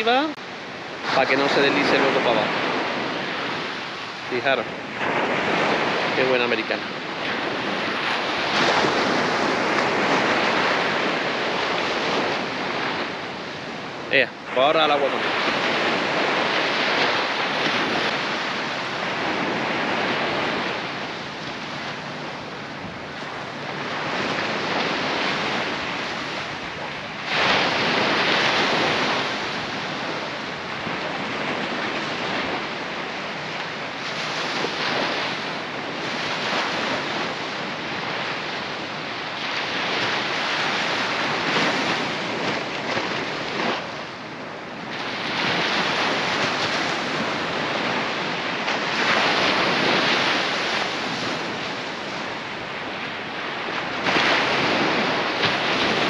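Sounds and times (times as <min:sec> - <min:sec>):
surf washing onto beach: 0:00.0 - 0:56.0
wind buffeting microphone: 0:00.0 - 0:56.0.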